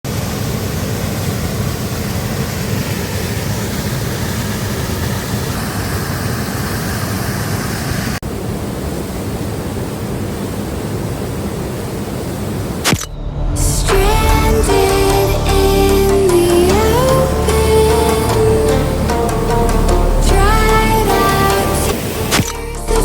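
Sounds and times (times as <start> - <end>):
waterfall roaring: 0.1 - 23.0.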